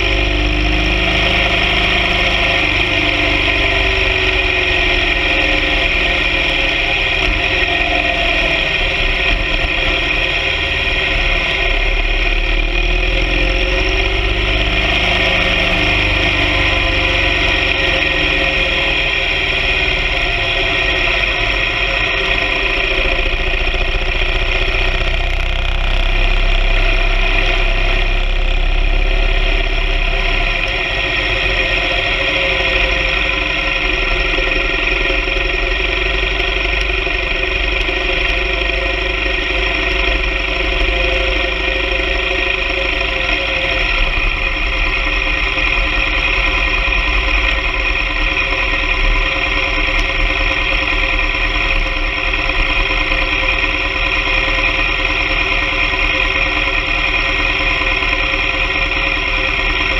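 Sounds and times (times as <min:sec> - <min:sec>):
motorcycle engine running: 0:00.0 - 0:59.9
road and wind rumble: 0:00.0 - 0:59.9.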